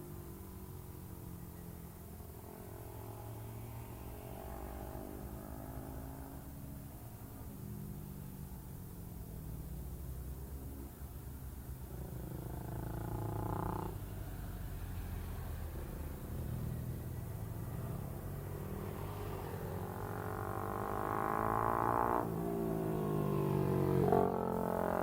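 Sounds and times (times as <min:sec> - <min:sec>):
motorcycle engine revving: 0:00.0 - 0:07.9, 0:10.5 - 0:25.0.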